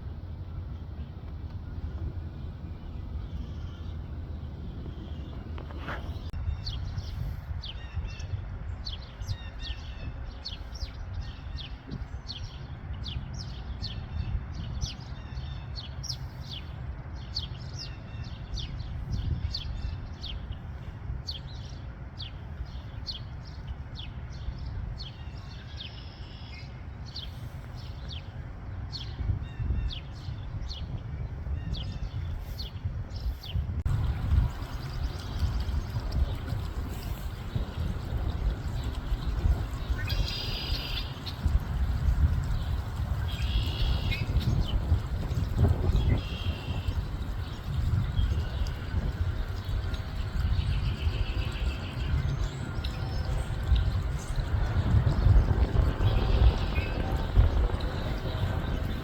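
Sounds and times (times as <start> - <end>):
birds chirping: 0.0 - 59.0
steady low rumble: 0.0 - 59.0.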